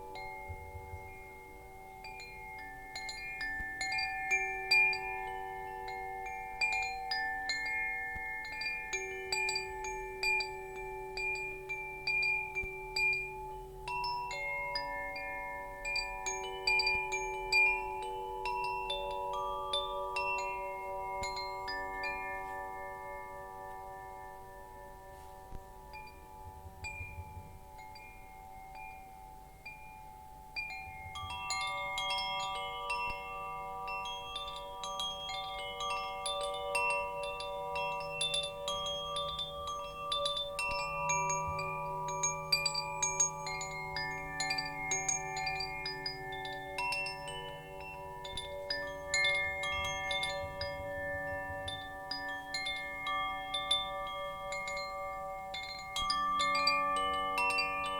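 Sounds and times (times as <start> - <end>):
wind chimes tinkling: 0.0 - 57.9.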